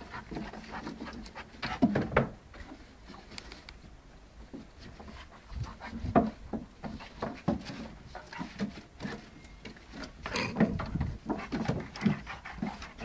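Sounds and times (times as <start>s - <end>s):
dogs scuffling on wooden boards: 0.0s - 3.6s, 4.4s - 13.0s.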